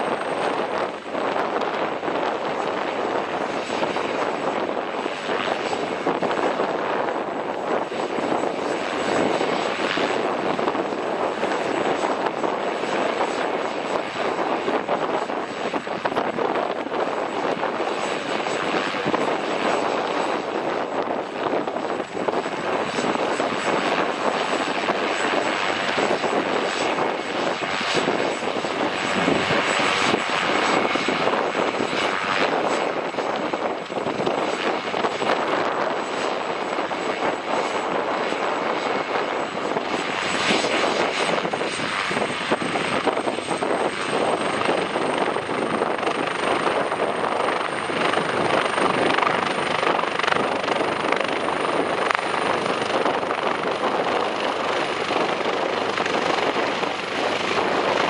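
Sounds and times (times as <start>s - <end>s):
helicopter rotor rushing: 0.0s - 58.0s
high turbine whine: 0.0s - 58.0s.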